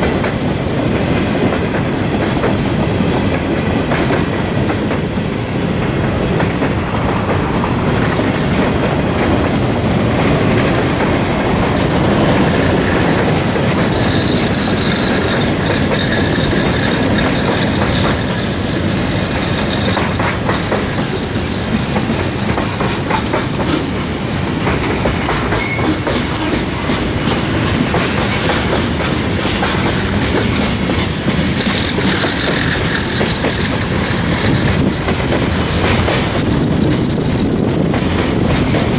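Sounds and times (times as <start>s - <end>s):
freight train wheels clacking: 0.0s - 38.9s
train wheel squeal: 4.7s - 38.9s.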